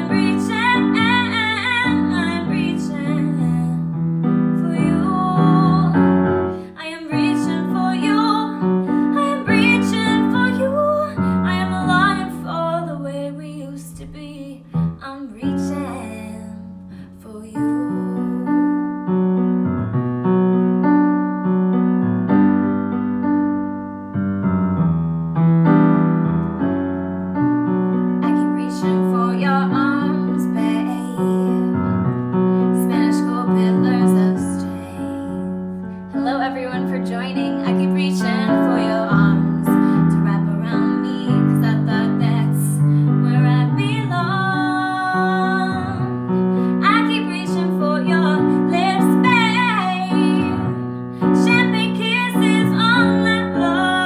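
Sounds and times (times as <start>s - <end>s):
keyboard playing piano chords: 0.0s - 13.0s, 17.8s - 54.0s
woman singing: 0.0s - 18.9s, 28.2s - 32.0s, 32.7s - 54.0s.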